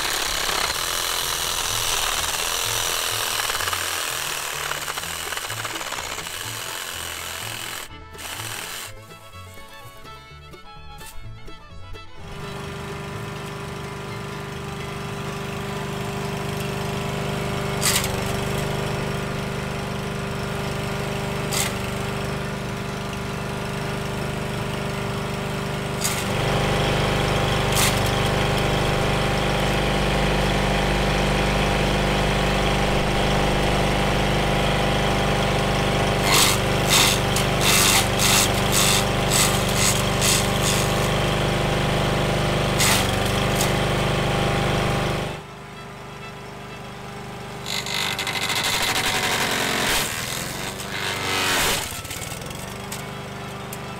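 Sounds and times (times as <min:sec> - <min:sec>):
mower blade cracking branches: 0:00.0 - 0:10.1, 0:17.5 - 0:19.5, 0:20.2 - 0:45.3, 0:47.6 - 0:53.9
lawn mower engine running: 0:00.0 - 0:11.5, 0:12.1 - 0:53.9.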